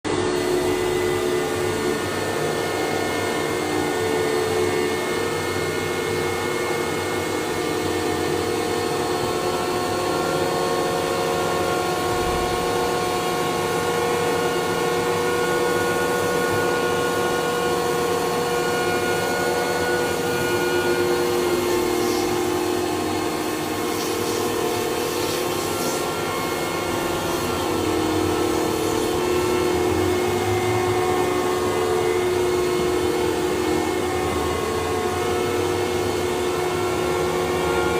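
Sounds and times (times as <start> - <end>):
cleaning machine motor whining: 0.1 - 37.9.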